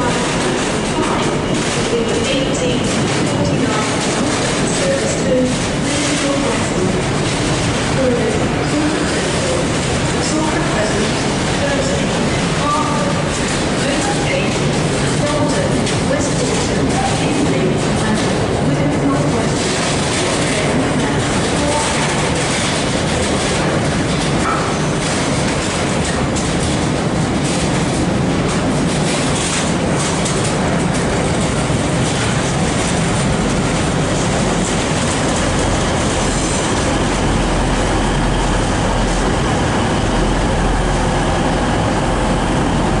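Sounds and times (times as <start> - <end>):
train wheels clattering over rail joints: 0.0 - 40.6.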